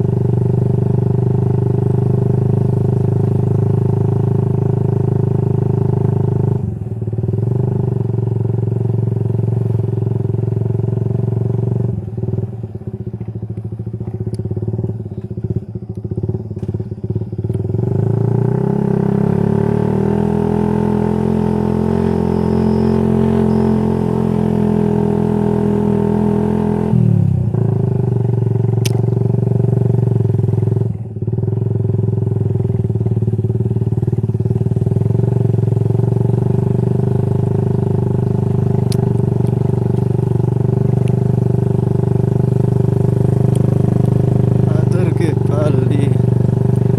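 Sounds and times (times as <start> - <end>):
motorcycle racing exhaust: 0.0 - 46.9.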